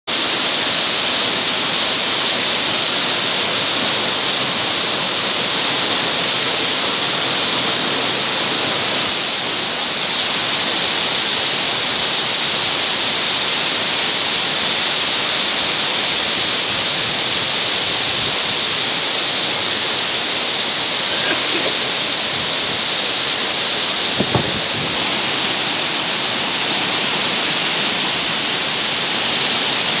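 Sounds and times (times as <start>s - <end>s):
waterfall rushing over rocks: 0.1s - 30.0s.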